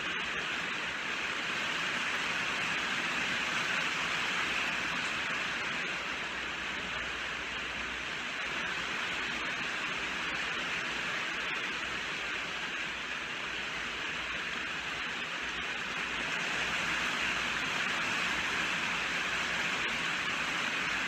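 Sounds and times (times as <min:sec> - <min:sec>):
heavy rainfall hiss: 0:00.0 - 0:21.0.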